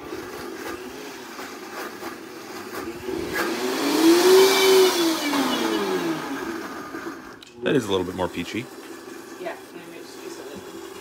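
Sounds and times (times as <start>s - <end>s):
blender motor churning: 0.0s - 11.0s.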